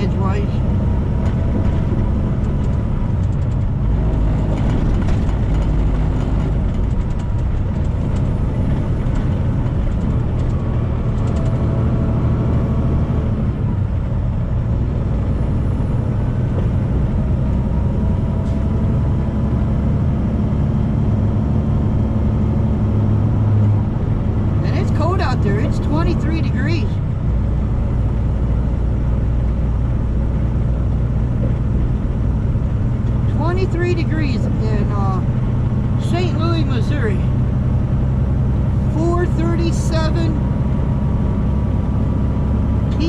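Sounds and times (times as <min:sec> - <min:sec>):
truck engine and tyres droning: 0:00.0 - 0:43.0.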